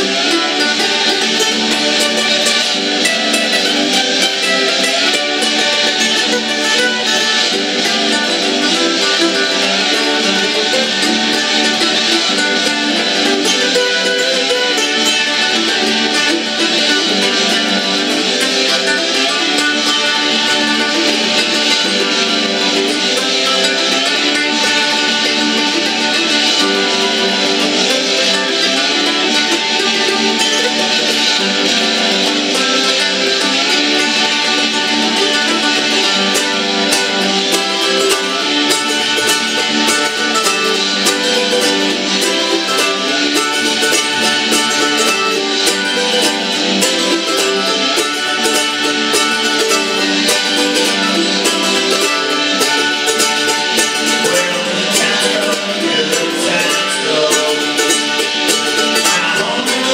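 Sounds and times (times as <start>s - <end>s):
mandolin picked and strummed: 0.0s - 59.9s.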